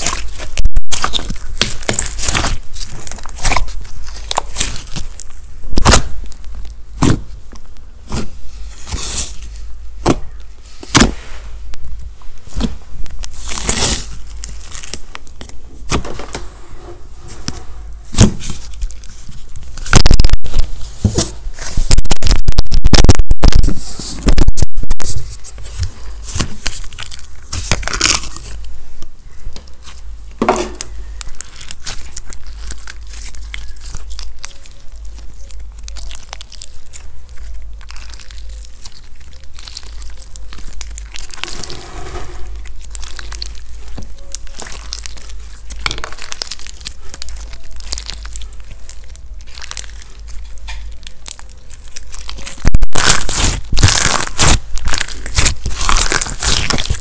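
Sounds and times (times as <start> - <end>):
slime clicking and crackling: 0.0 - 15.6, 18.1 - 20.9, 21.6 - 41.8, 42.5 - 57.0.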